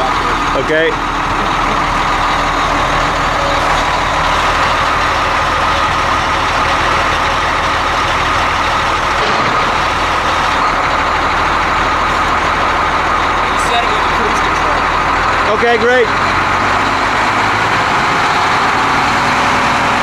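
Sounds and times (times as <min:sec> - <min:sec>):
truck engine running at raised revs: 0:00.0 - 0:20.0.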